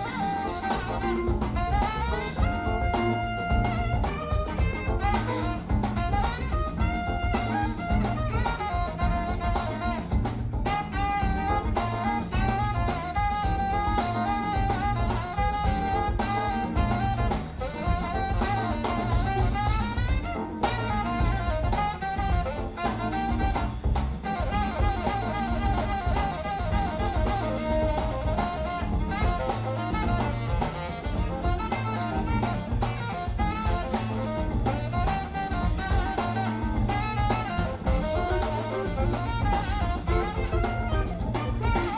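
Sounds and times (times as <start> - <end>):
drum kit beat: 0.0 - 41.9
saxophone and brass melody: 0.0 - 41.9.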